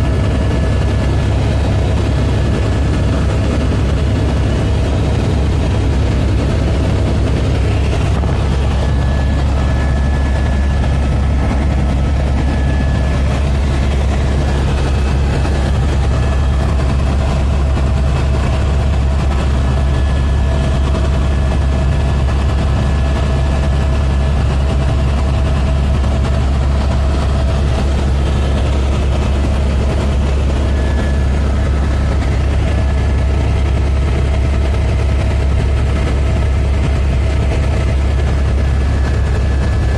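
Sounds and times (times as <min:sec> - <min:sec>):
helicopter engine and rotors: 0:00.0 - 0:39.9.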